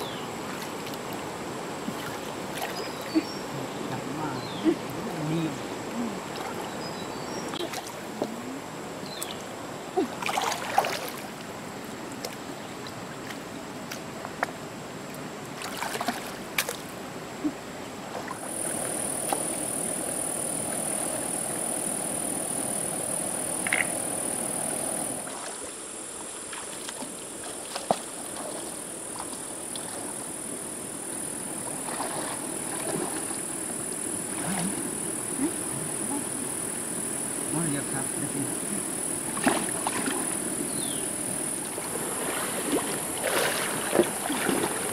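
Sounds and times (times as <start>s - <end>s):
stream water splashing: 0.0s - 44.9s.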